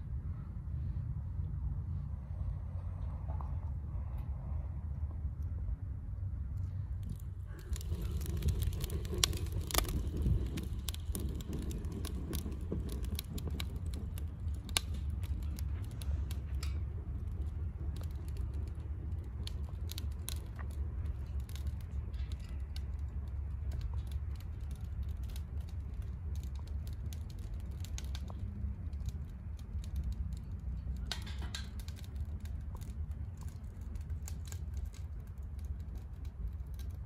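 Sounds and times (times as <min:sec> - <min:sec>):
wind rumble on microphone: 0:00.0 - 0:37.0
small clicks and crackles: 0:06.6 - 0:37.0.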